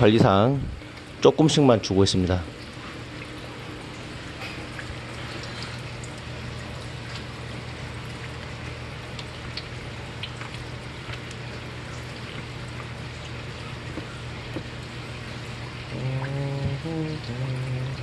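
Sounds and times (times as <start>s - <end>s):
low steady hum: 0.0s - 18.0s
water splashing and trickling: 0.0s - 18.0s.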